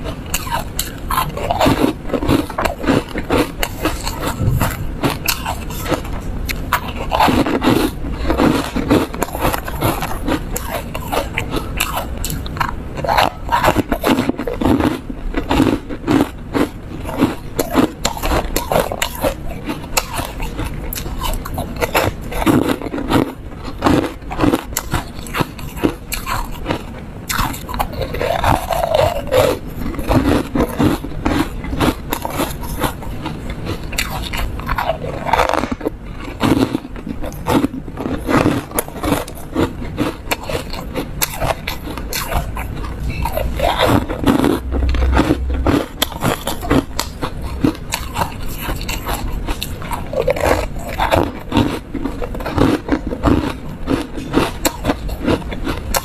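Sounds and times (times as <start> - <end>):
crunching and chewing foam ice: 0.0 - 56.0.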